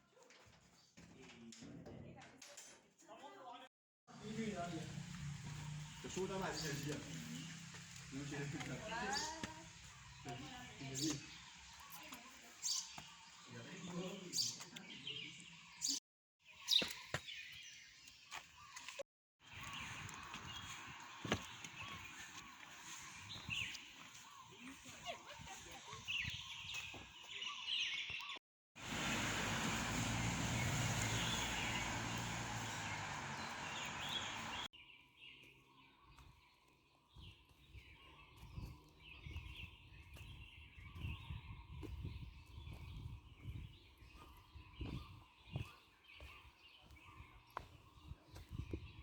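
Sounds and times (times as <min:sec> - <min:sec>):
birds chirping: 0:04.1 - 0:49.0.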